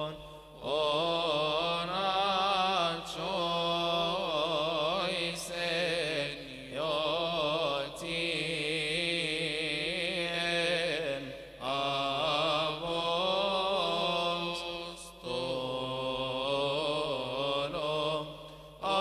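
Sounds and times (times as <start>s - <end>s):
men chanting a hymn: 0.0s - 19.0s.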